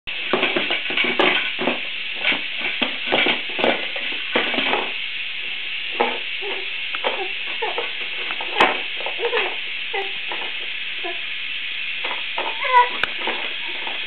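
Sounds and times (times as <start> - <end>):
steady hiss: 0.1 - 14.0.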